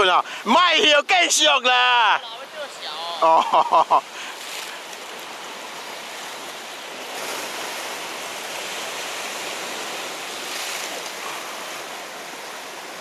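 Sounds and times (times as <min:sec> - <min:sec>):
sea waves washing against rocks: 0:00.0 - 0:13.0.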